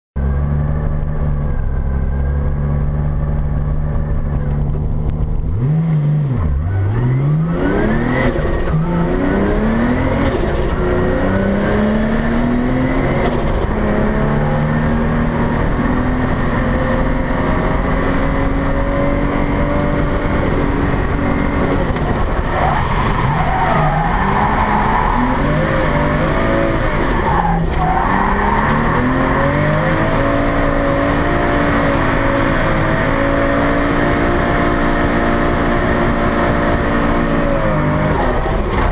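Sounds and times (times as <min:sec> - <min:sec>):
car engine revving: 0:00.2 - 0:38.9.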